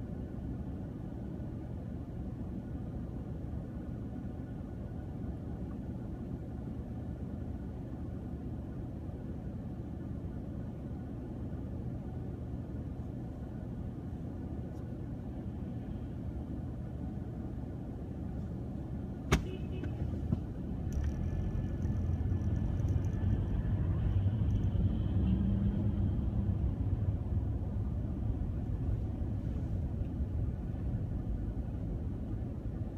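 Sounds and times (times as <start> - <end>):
car engine rumble: 0.0 - 32.9
road noise: 0.0 - 32.9.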